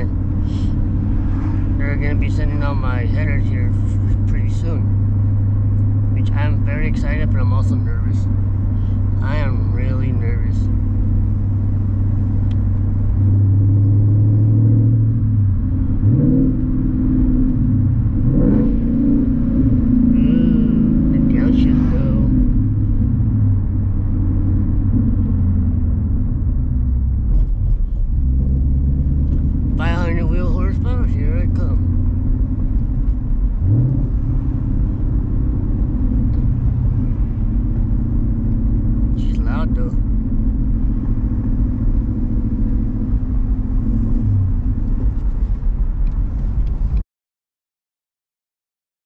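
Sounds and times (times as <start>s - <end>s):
car exhaust rumble: 0.0s - 47.0s.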